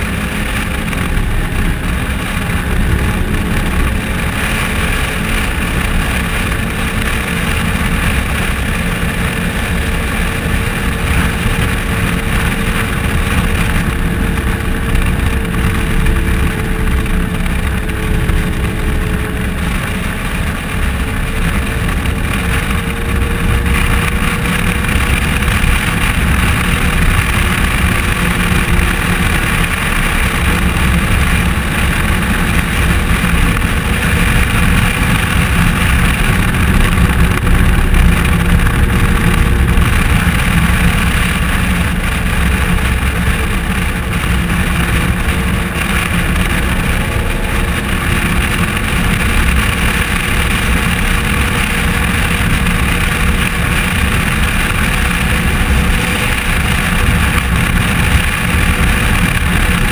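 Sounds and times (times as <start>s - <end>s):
engine drone: 0.0s - 59.9s
wind and road noise: 0.0s - 59.9s.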